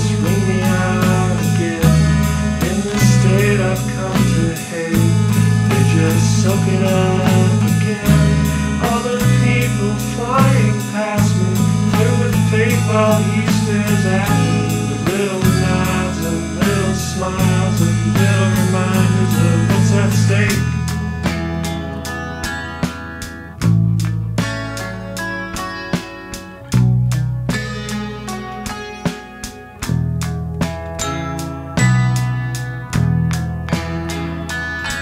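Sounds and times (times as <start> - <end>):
alternative rock song: 0.0 - 35.0.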